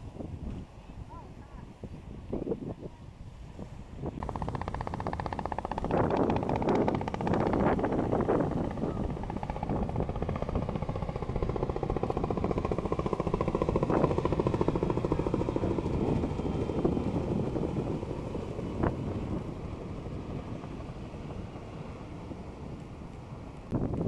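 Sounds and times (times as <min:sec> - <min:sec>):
helicopter rotor blades beating: 0:04.2 - 0:24.0.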